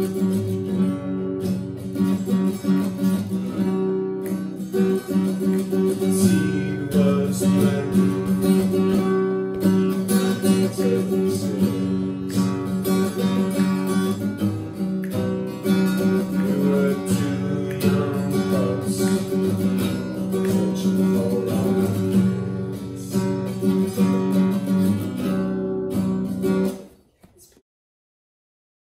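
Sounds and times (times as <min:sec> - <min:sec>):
acoustic guitar music: 0:00.0 - 0:27.2.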